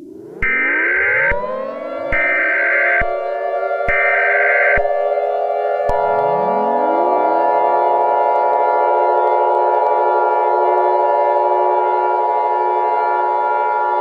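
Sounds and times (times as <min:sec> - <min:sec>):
siren-like alarm tone: 0:00.0 - 0:14.0.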